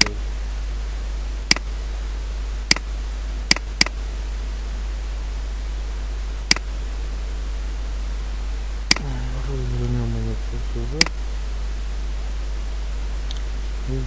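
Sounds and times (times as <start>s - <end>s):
faint hiss: 0.0s - 14.0s
low electrical hum: 0.0s - 14.0s.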